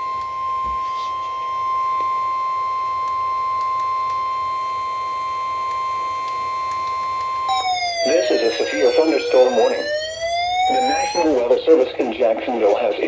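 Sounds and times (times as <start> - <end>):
steady alarm beep: 0.0 - 13.0.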